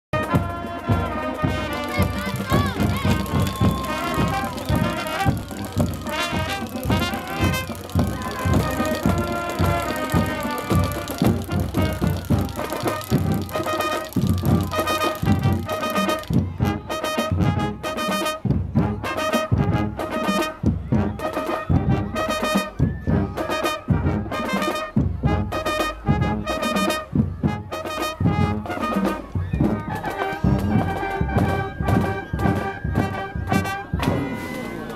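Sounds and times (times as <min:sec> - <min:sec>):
brass band playing: 0:00.1 - 0:34.9
pulsing tuba bass line: 0:00.2 - 0:34.9.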